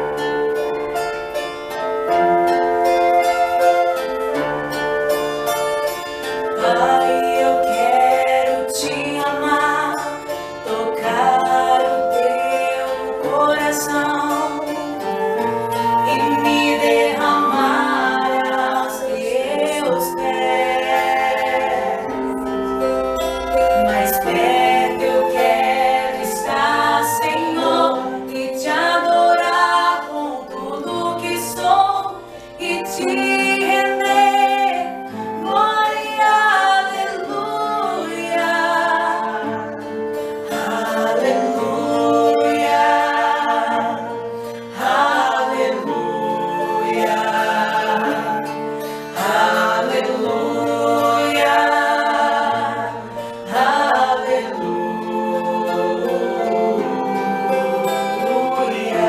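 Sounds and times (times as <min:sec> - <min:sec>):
acoustic guitar: 0:00.0 - 0:59.0
keyboard chords: 0:00.0 - 0:59.0
people singing slow song: 0:06.4 - 0:59.0.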